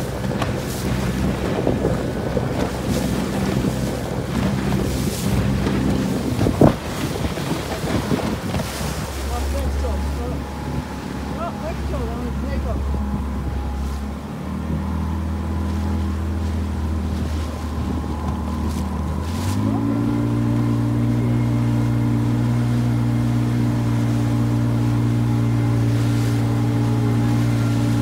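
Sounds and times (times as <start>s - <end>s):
outboard motor running: 0.0s - 28.0s
water rushing past hull: 0.0s - 28.0s.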